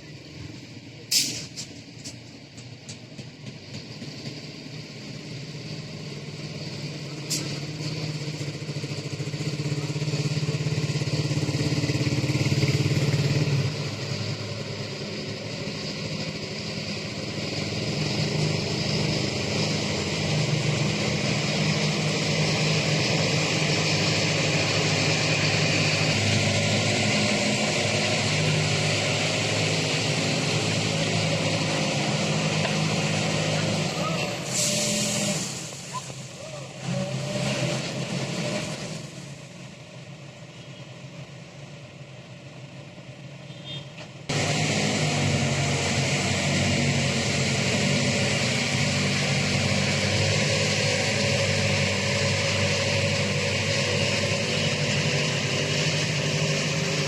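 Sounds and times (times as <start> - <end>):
backhoe diesel engine running: 0.0 - 57.0.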